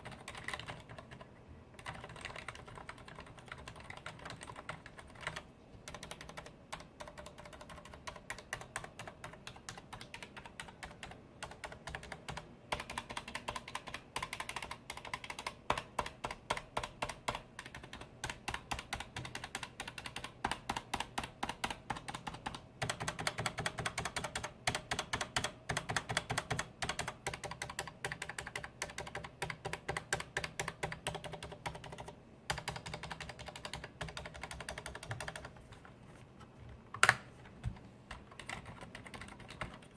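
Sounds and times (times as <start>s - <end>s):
mechanical keyboard keystrokes: 0.0s - 1.2s, 1.8s - 35.6s, 38.1s - 39.9s.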